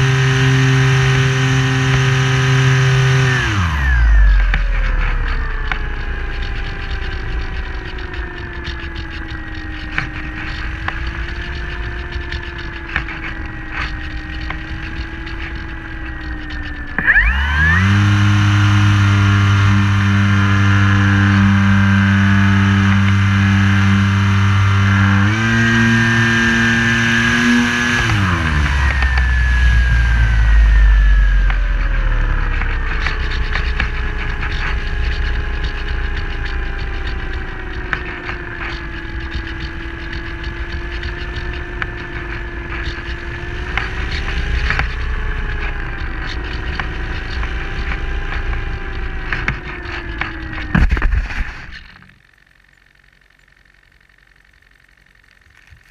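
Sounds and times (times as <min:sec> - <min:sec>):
model airplane motor and propeller: 0:00.0 - 0:55.9.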